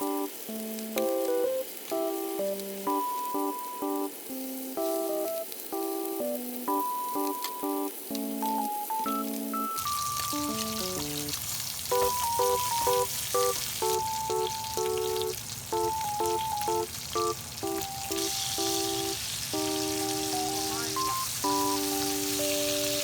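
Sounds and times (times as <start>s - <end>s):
food sizzling in a pan: 0.0s - 23.0s
light music with plucked notes: 0.0s - 23.0s.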